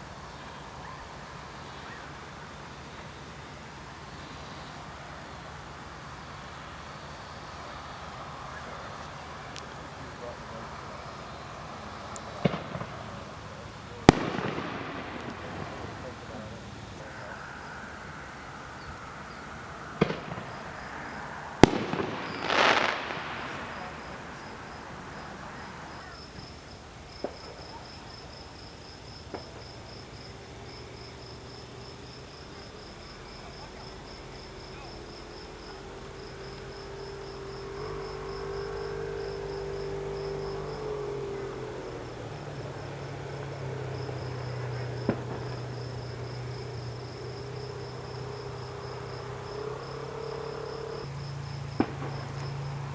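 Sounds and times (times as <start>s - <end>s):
fireworks bangs: 0.0s - 52.9s
fireworks crackling: 0.0s - 52.9s
insects chirping: 0.0s - 52.9s.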